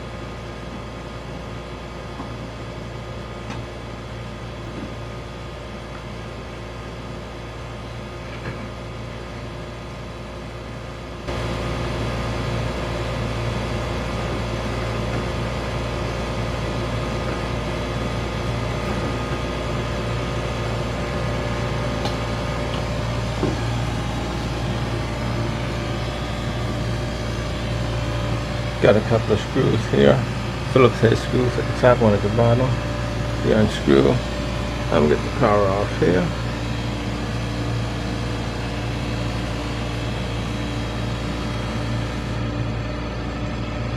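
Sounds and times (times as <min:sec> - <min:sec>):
ice machine humming: 0:00.0 - 0:43.9.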